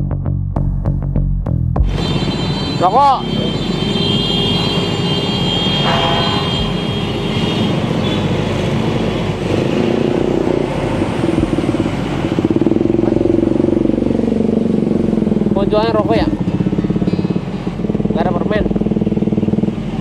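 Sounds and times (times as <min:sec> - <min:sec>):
street traffic: 0:01.7 - 0:20.0
motorcycle engine running: 0:01.8 - 0:20.0.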